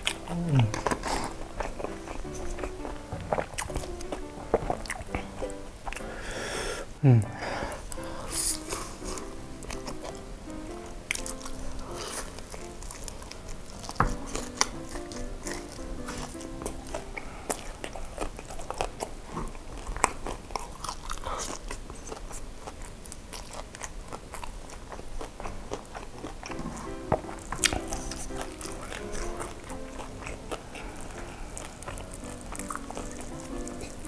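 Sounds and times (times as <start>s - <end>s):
chewing and biting food: 0.0s - 6.4s, 7.7s - 34.0s
soft background music: 0.0s - 18.8s, 25.3s - 34.0s.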